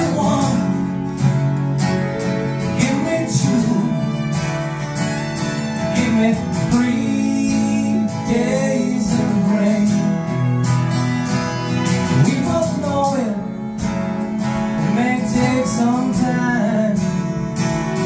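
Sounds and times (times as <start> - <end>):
acoustic guitars strummed: 0.0 - 18.0
fiddle bowed: 0.0 - 18.0.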